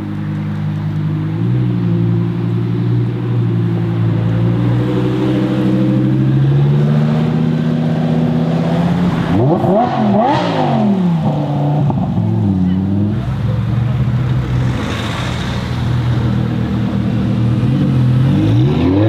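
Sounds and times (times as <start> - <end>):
car engine revving: 0.2 - 19.0.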